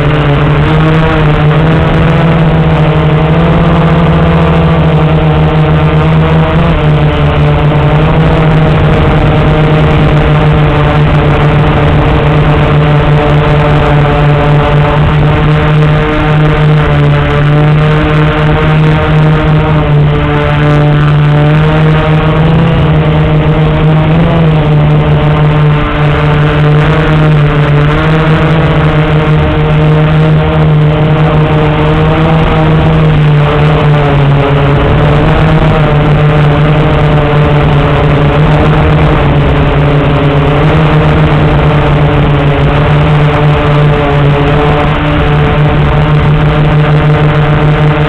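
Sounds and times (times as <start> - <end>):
quadcopter motors whirring: 0.0 - 48.0.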